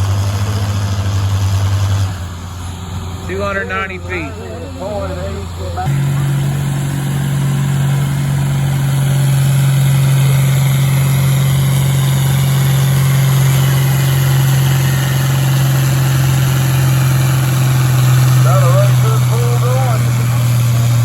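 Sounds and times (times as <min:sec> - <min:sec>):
tractor engine running loud: 0:00.0 - 0:21.0.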